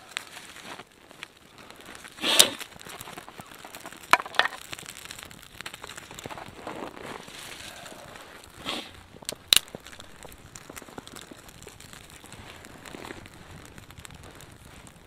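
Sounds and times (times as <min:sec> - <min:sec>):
campfire flame crackling: 0:00.0 - 0:15.0
twigs being snapped: 0:00.1 - 0:15.0.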